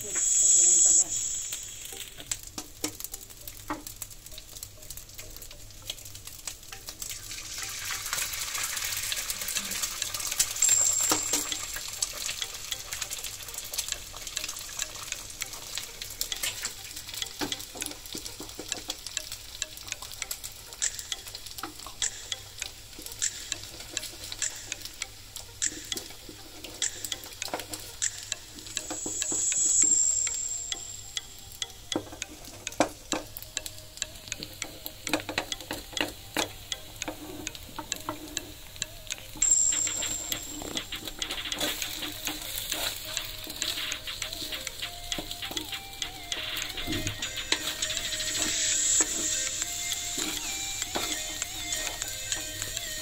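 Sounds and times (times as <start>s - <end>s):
rice and eggs sizzling in wok: 0.0s - 53.0s.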